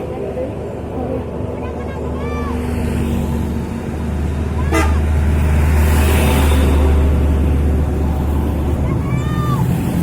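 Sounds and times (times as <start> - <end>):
heavy vehicle engine humming: 0.0 - 10.0
road noise of passing vehicle: 0.0 - 10.0.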